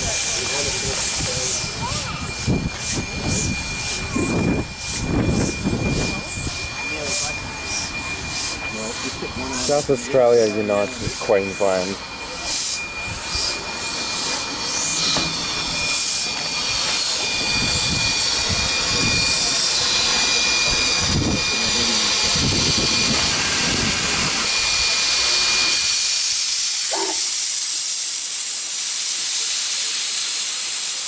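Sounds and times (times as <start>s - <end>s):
steam hissing with high tone: 0.0s - 31.0s
steam locomotive puffing: 0.0s - 31.0s.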